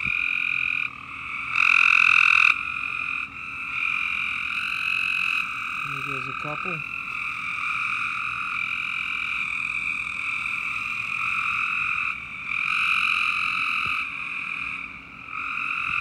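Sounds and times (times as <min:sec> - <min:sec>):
chorus of frogs calling: 0:00.0 - 0:16.0.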